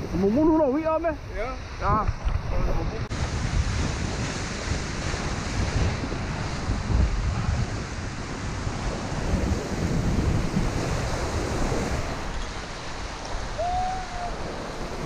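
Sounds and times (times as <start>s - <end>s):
ocean waves breaking on rocks: 0.0s - 15.0s
wind buffeting microphone: 0.0s - 15.0s.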